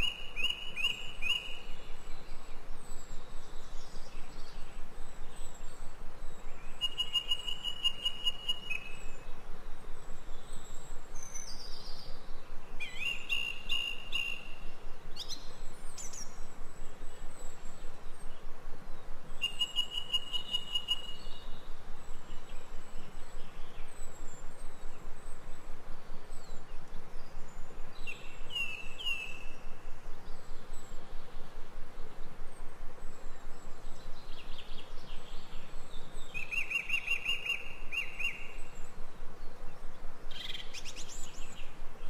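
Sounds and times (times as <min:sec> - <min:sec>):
small birds trilling and whistling: 0:00.0 - 0:42.0
steady background hiss: 0:00.0 - 0:42.0.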